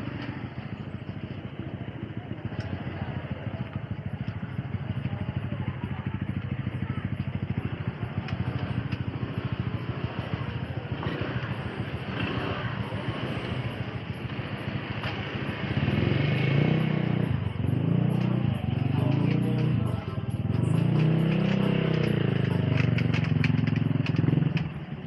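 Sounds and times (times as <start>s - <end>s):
scooter engines running: 0.0s - 25.0s
voices of people: 0.0s - 25.0s.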